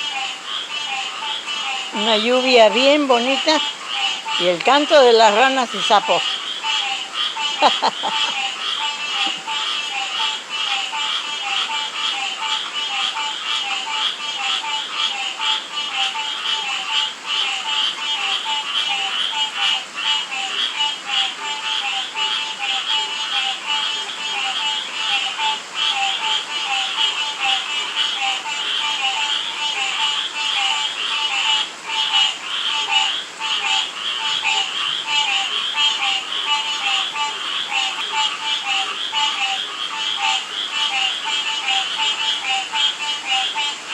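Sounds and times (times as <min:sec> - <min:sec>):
frog repeating low note: 0:00.0 - 0:43.9
frogs trilling: 0:00.0 - 0:43.9
rain hissing: 0:00.0 - 0:43.9.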